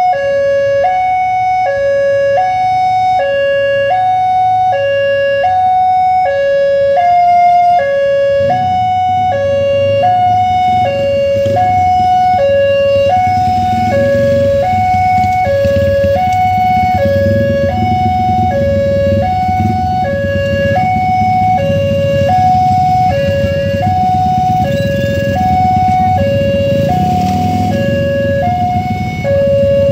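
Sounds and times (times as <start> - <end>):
level-crossing two-tone alarm: 0.0 - 29.9.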